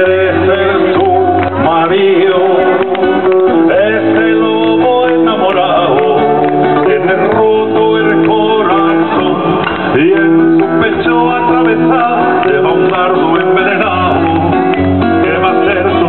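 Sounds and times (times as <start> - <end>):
acoustic guitar: 0.0 - 16.0
man singing: 0.0 - 16.0.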